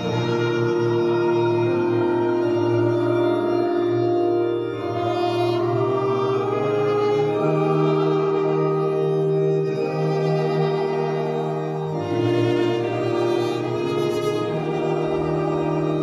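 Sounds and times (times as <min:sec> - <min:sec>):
church band playing a hymn: 0:00.0 - 0:16.0
electronic keyboard organ chords: 0:00.0 - 0:16.0.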